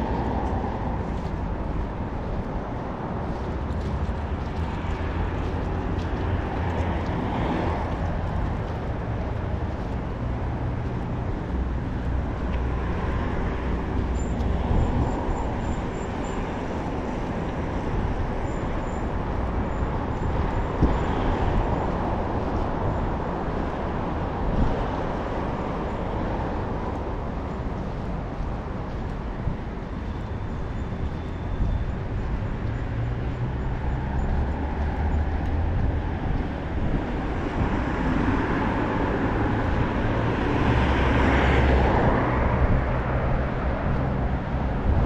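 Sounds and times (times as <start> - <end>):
cars passing by: 0.0 - 45.0.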